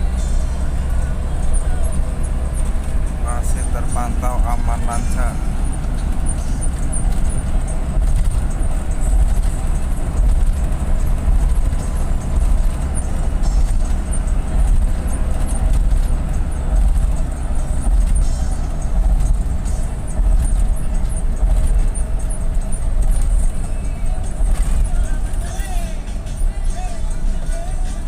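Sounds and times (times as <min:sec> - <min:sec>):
bus engine and road noise: 0:00.0 - 0:28.0.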